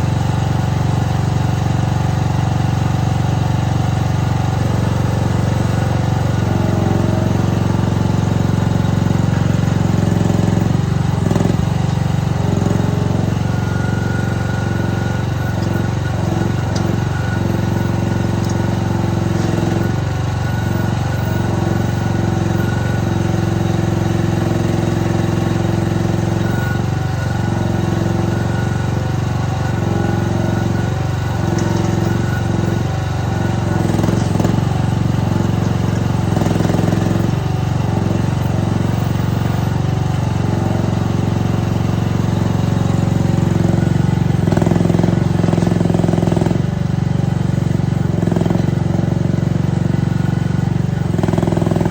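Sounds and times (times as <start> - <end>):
mini excavator engine running: 0.0 - 51.9.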